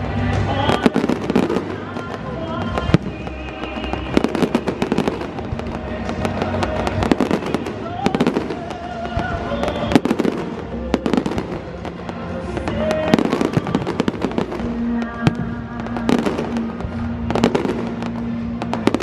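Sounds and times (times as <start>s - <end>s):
fireworks banging and crackling: 0.0s - 19.0s
music playing: 0.0s - 19.0s.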